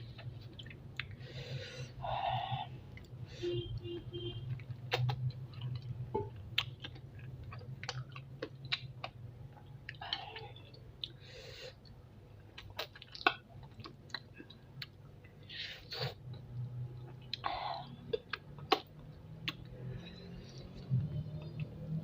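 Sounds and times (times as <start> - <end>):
person chewing with wet smacks: 0.0 - 1.2, 2.9 - 11.2, 11.8 - 21.9.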